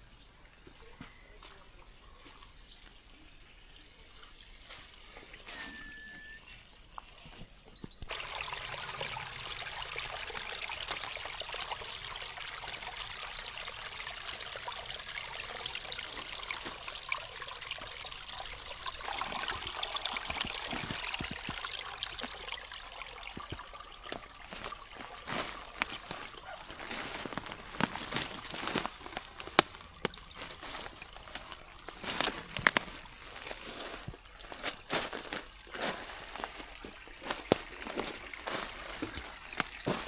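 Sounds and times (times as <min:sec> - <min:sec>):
brook trickling: 0:00.2 - 0:40.0.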